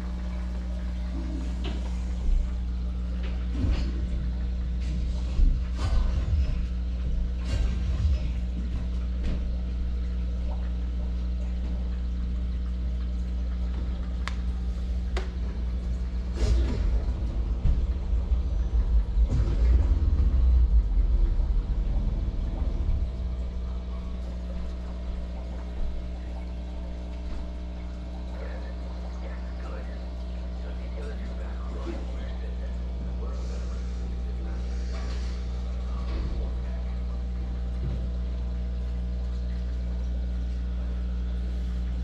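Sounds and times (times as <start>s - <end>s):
aquarium equipment hum: 0.0s - 42.0s.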